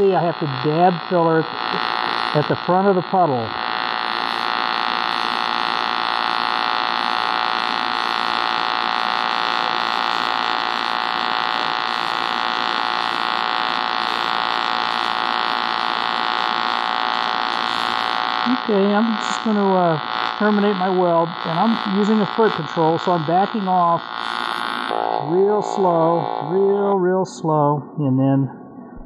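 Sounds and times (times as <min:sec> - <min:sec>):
tig welding arc buzzing: 0:00.0 - 0:26.6.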